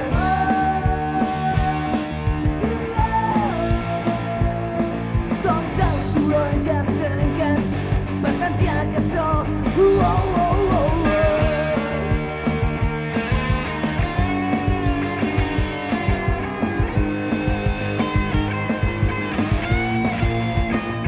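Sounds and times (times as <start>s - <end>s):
lead guitar bending notes: 0.0s - 21.0s
rock band playing: 0.0s - 21.0s.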